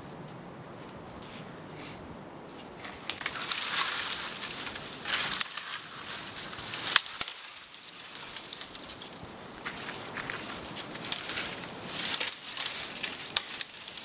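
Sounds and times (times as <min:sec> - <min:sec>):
branches crackling: 0:00.8 - 0:14.0
dry wood cracking: 0:02.5 - 0:14.0.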